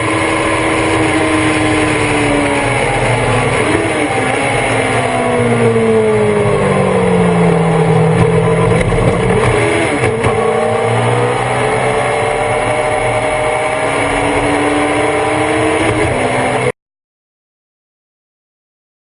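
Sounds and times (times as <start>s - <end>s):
race car engine running: 0.0s - 16.7s.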